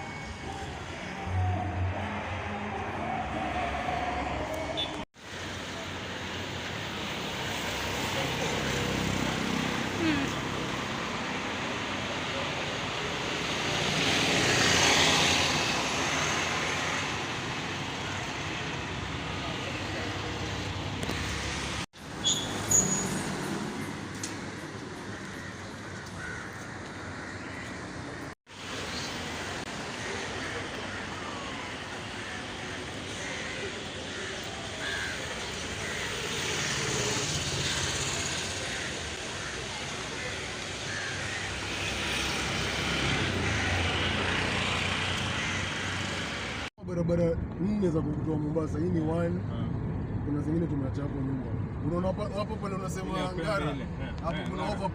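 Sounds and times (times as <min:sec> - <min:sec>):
road traffic noise: 0:00.0 - 0:54.9.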